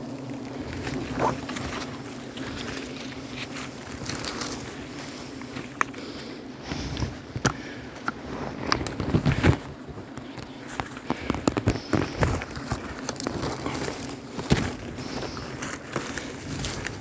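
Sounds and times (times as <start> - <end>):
dry brush and twigs cracking: 0.0 - 17.0.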